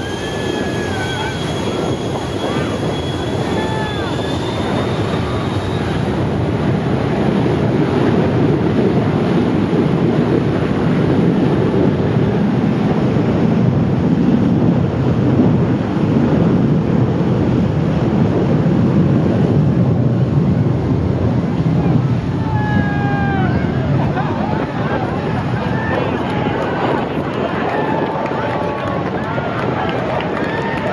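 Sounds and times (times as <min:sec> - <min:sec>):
jet engine roar: 0:00.0 - 0:30.9
wind buffeting microphone: 0:00.0 - 0:30.9.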